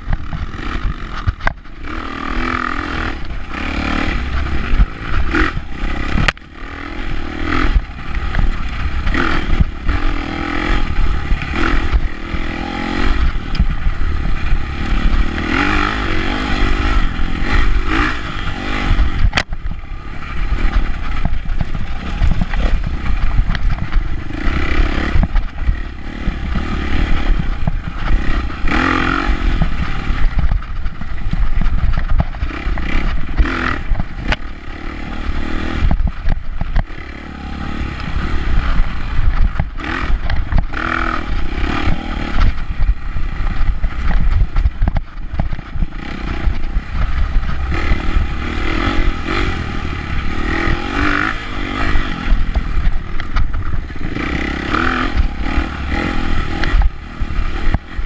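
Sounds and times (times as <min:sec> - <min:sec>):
dirt bike engine revving: 0:00.0 - 0:58.0
wind rumble on camera: 0:00.0 - 0:58.0.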